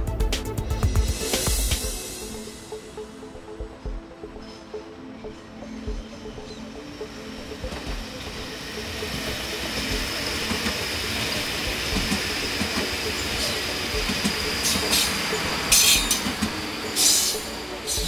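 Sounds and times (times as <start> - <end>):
train approaching on track: 0.0 - 18.0.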